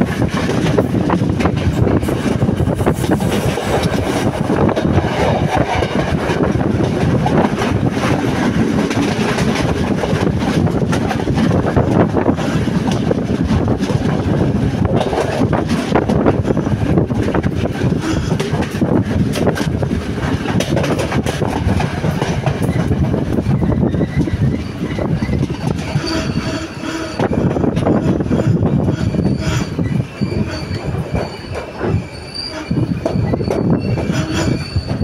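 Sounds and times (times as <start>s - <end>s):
sharp rail clacks: 0.0s - 30.1s
train wheels rumbling on rails: 0.0s - 35.0s
wind buffeting microphone: 0.0s - 35.0s.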